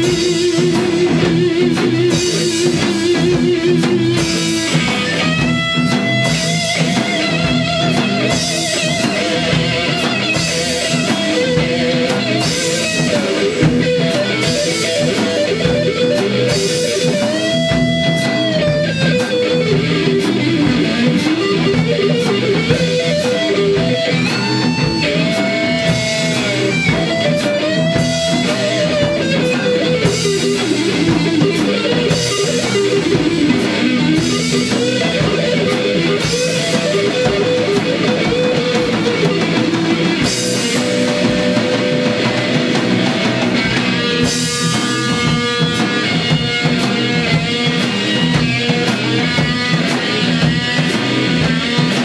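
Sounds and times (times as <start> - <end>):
lead electric guitar with vibrato: 0.0 - 52.0
strummed guitar chords: 0.0 - 52.0.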